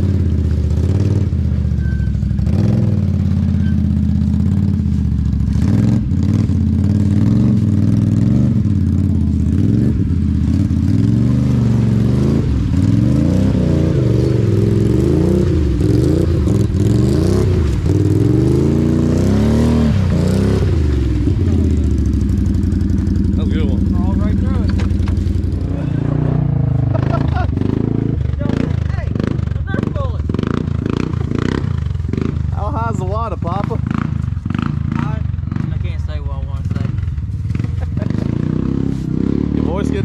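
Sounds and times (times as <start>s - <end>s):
quad bike engine revving: 0.0s - 40.0s.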